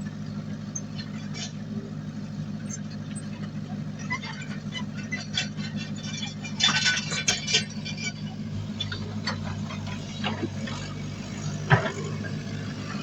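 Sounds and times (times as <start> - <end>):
diesel engine running: 0.0 - 13.0
metallic clanks and rattles: 2.6 - 13.0.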